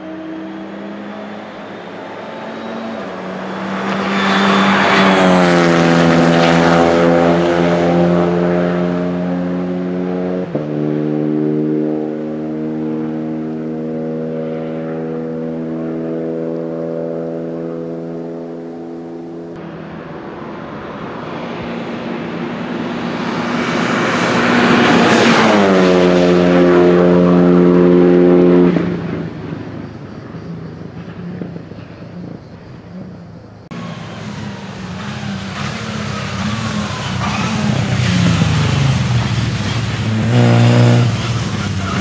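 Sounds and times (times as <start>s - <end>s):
race car engines passing: 0.0s - 42.0s.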